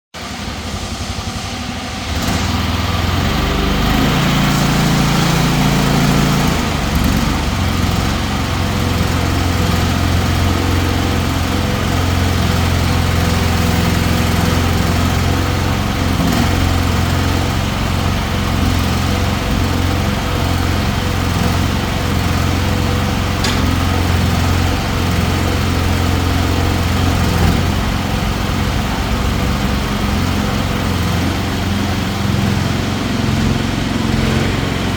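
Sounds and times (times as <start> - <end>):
small excavator engine running: 0.2 - 34.9.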